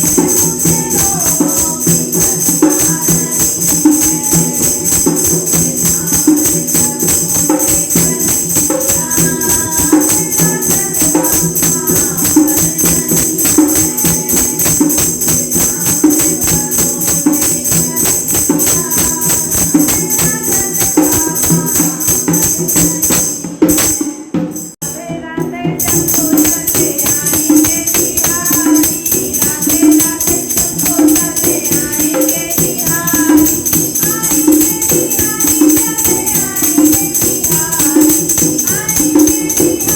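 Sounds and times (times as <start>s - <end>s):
tambourine jingling: 0.0s - 39.9s
women singing devotional song: 0.0s - 39.9s.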